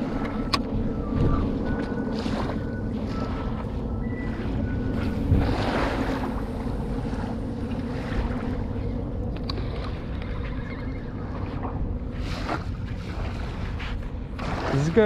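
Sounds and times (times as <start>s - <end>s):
low engine drone: 0.0s - 15.0s
wind rumbling on microphone: 0.0s - 15.0s.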